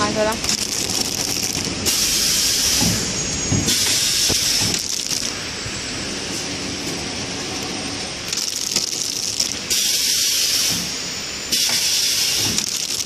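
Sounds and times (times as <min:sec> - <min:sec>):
packing machine hissing: 0:00.3 - 0:13.0.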